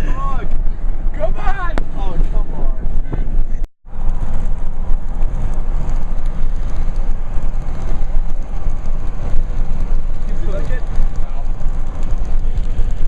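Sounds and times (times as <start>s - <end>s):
car road noise at speed: 0.0s - 13.0s
wind buffeting microphone: 0.0s - 13.0s.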